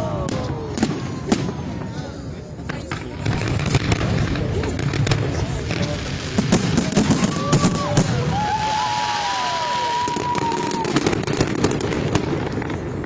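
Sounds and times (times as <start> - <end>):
fireworks bangs and crackle: 0.0 - 13.0.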